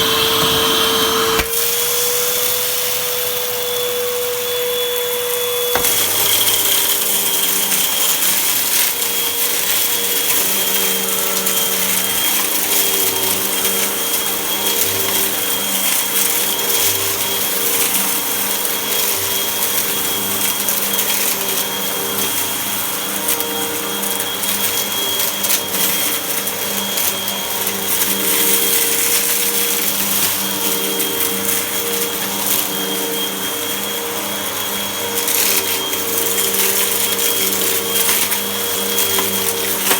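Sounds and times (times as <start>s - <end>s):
vacuum cleaner running: 0.0s - 39.9s
small clicks and crackles: 3.0s - 39.9s.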